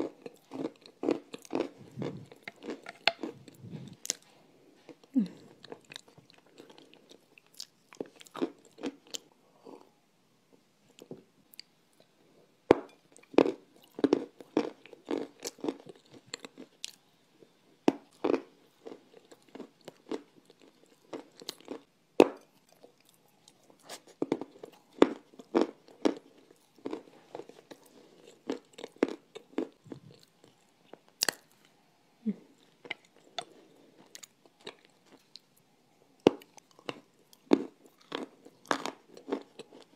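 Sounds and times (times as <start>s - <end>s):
soft chewing: 0.0s - 10.0s, 12.8s - 39.9s.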